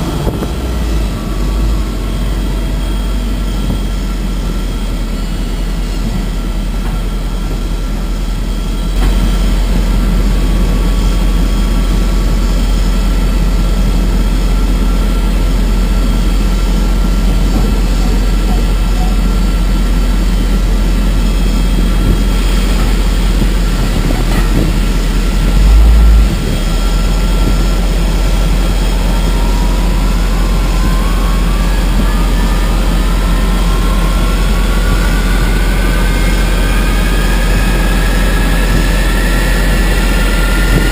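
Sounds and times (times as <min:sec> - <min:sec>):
jet engine spooling up: 0:00.0 - 0:40.9
low rumble of tug and engines: 0:00.0 - 0:40.9.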